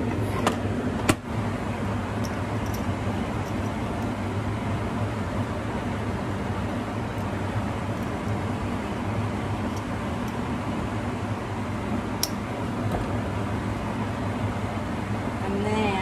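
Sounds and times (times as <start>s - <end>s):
exhaust fan humming: 0.0s - 16.0s.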